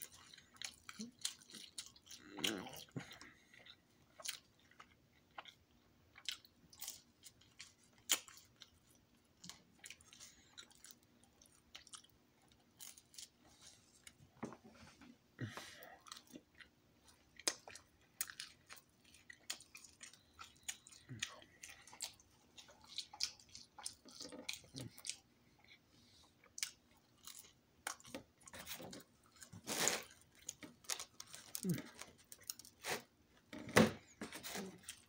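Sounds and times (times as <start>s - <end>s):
person chewing pizza: 0.0s - 14.2s, 14.9s - 33.2s, 34.0s - 35.0s.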